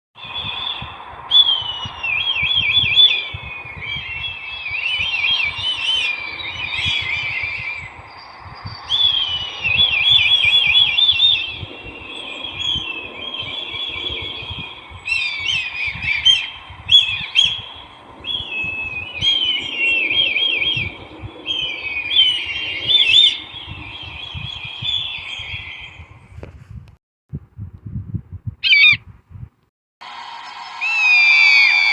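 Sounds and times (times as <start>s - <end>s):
kite calling with quavering calls: 0.2s - 26.5s, 28.6s - 29.0s, 30.0s - 31.9s.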